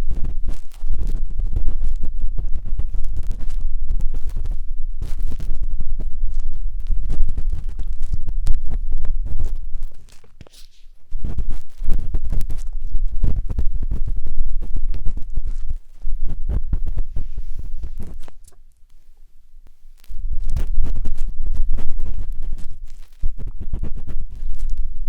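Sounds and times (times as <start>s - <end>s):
matchstick scratching on microphone: 0.0s - 24.9s.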